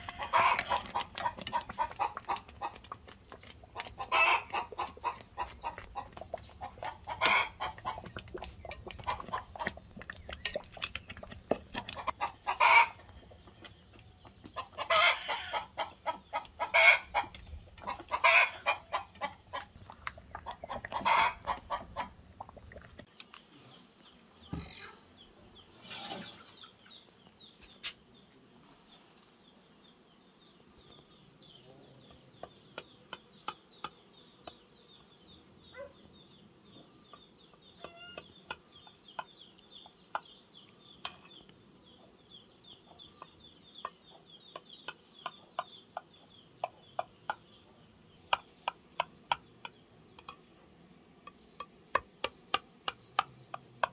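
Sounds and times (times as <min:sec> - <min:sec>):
chickens clucking: 0:00.0 - 0:23.2, 0:30.8 - 0:53.9.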